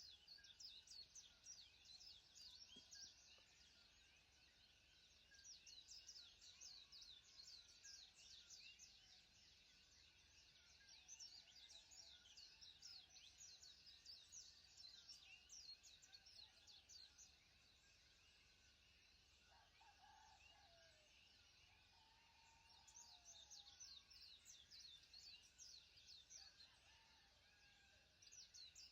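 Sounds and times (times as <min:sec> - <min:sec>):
small birds chirping: 0:00.0 - 0:20.7, 0:21.7 - 0:28.9.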